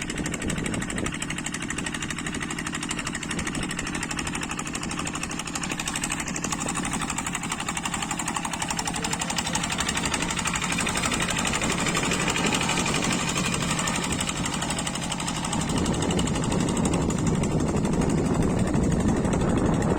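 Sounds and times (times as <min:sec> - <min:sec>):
diesel engine chugging: 0:00.0 - 0:19.9.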